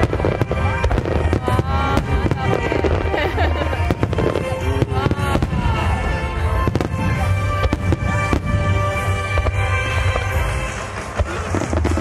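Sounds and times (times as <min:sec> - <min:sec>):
fireworks bursting: 0:00.0 - 0:12.0
music playing: 0:00.0 - 0:12.0.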